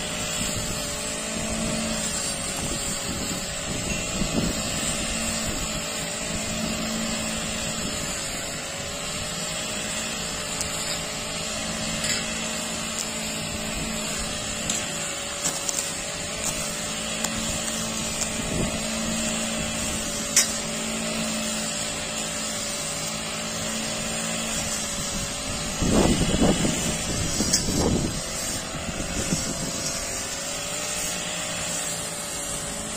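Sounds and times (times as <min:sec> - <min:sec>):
brush cutter cutting grass: 0:00.0 - 0:32.9.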